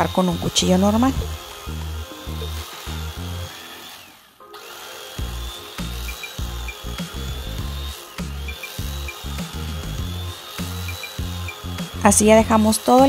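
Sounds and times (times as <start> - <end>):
electric carving knife buzzing: 0.0 - 13.0.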